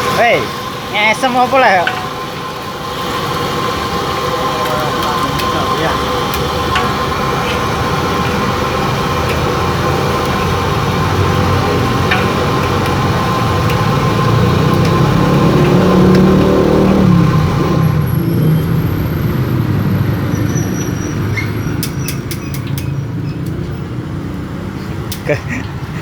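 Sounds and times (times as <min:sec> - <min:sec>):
vehicle engine rumbling past: 0:00.0 - 0:25.1.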